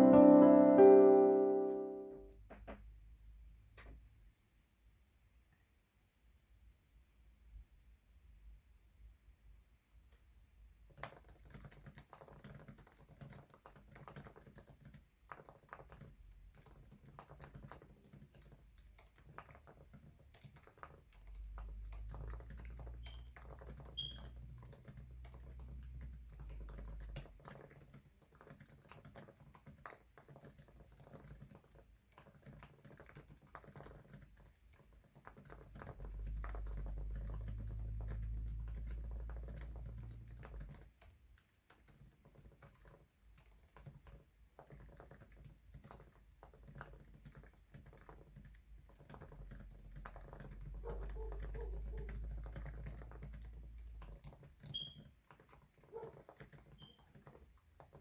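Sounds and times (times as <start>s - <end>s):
fast typing on keyboard: 10.9s - 58.0s.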